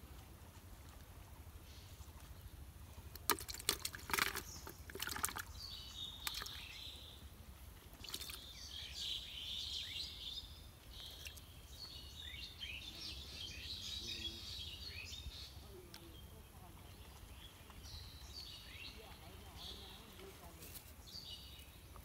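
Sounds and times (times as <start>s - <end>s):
small birds chirping: 1.6s - 22.0s.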